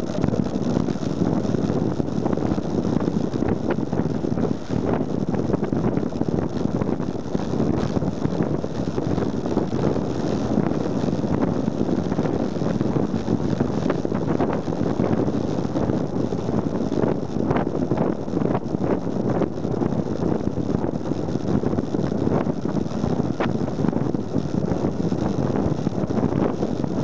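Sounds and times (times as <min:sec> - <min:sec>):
bicycle tyre noise: 0:00.0 - 0:27.0
wind rushing over microphone: 0:00.0 - 0:27.0.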